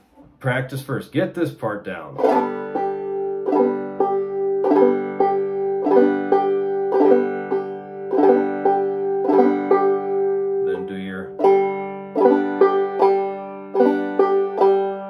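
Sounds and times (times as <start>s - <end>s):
clawhammer banjo playing: 0.7s - 15.0s.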